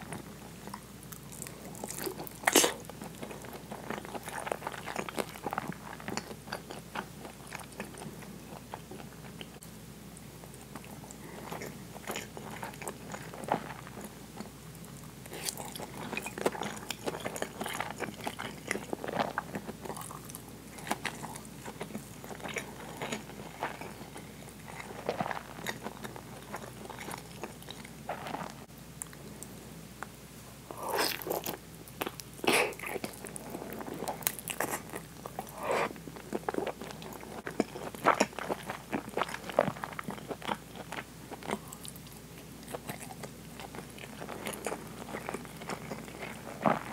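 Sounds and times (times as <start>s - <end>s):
chewing soft food: 0.0s - 9.6s, 10.2s - 30.1s, 30.7s - 46.9s.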